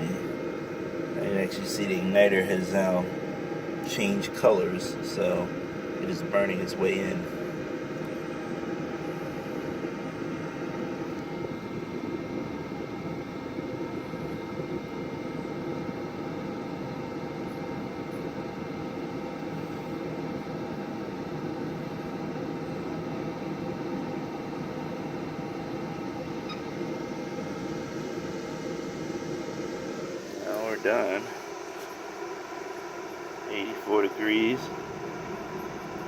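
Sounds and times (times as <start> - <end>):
combustion fan humming: 0.0 - 36.0.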